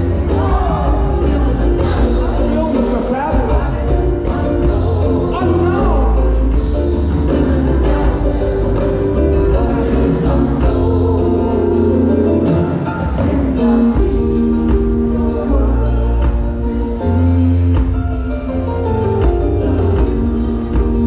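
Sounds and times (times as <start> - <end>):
choir singing held notes: 0.0 - 17.9
band with bass and drums: 0.0 - 21.0.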